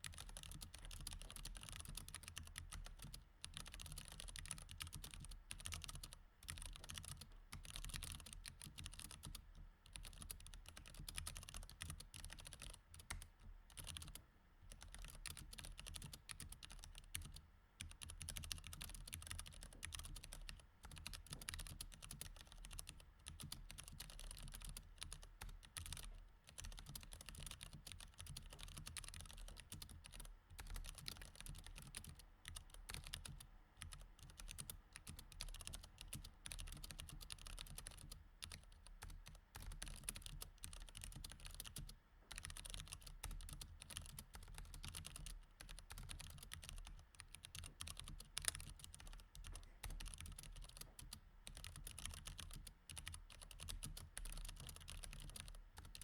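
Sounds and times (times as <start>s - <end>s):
mechanical keyboard typing: 0.1s - 56.0s.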